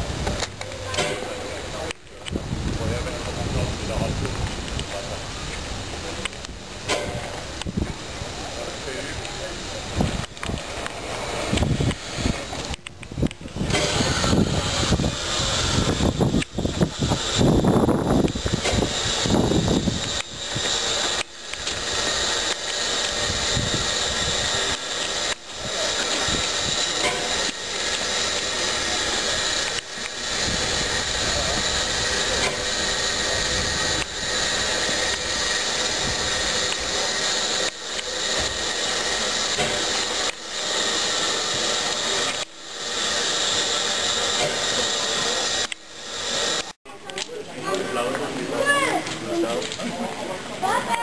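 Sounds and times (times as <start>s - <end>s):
steam hissing from locomotive: 0.0s - 51.0s.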